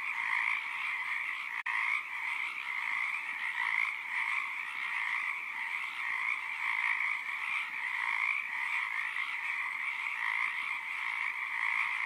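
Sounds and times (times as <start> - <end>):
chorus of frogs calling: 0.0 - 12.0.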